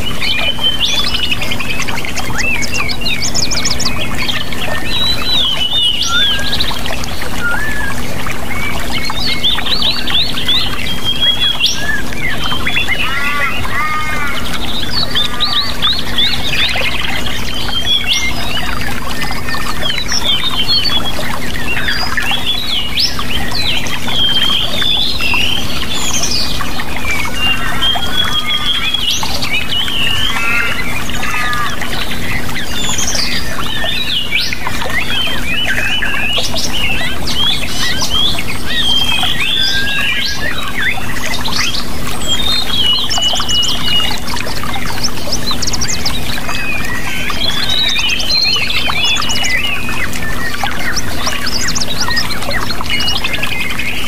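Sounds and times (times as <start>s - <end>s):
birds chirping and whistling: 0.0s - 54.0s
rushing water: 0.0s - 54.0s.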